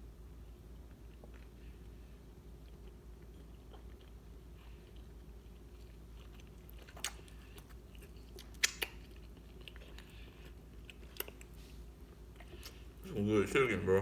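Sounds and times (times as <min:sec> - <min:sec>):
faint low hum: 0:00.0 - 0:14.0
chewing fried chicken: 0:00.3 - 0:13.6.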